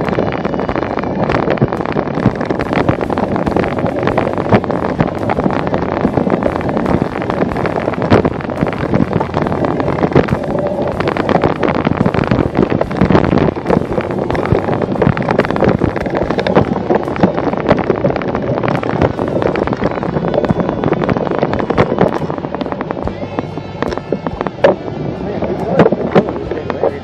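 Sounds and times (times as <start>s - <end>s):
bike rattling and knocking: 0.0s - 24.9s
wind on microphone: 0.0s - 27.0s.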